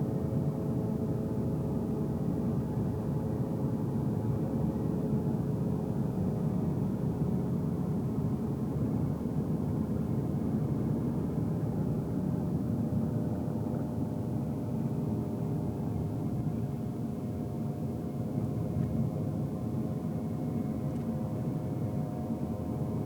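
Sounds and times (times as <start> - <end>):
faint engine hum: 0.0 - 23.0.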